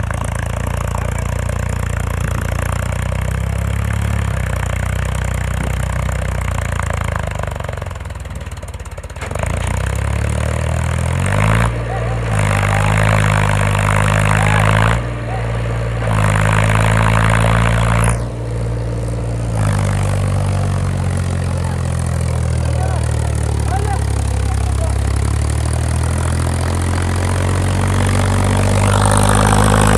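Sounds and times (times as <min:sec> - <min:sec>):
diesel tractor engine revving: 0:00.0 - 0:29.9.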